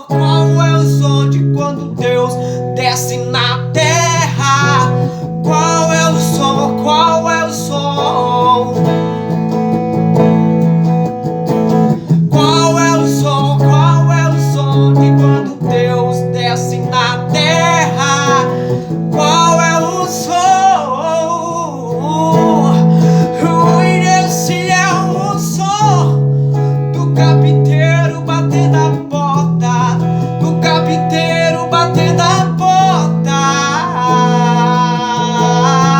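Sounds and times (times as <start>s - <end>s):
man singing a hymn: 0.0s - 9.2s, 12.3s - 35.9s
strummed acoustic guitar: 0.0s - 35.9s.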